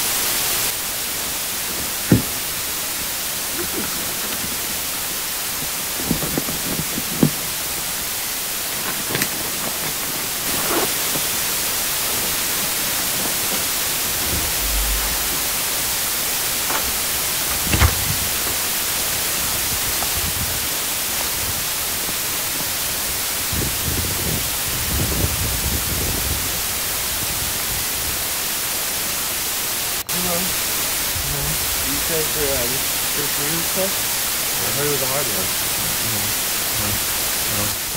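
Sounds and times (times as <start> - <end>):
steady white noise hiss: 0.0 - 37.9.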